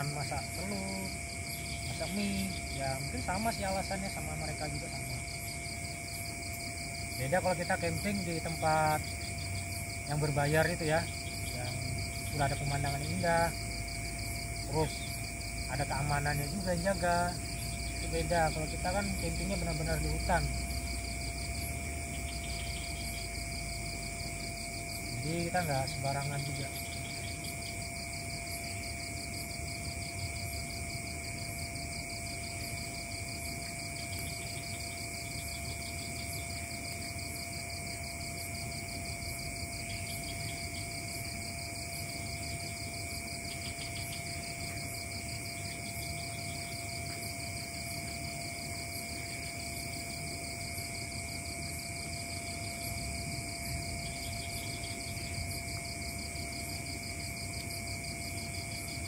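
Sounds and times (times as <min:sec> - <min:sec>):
insects chirping at night: 0:00.0 - 0:59.0.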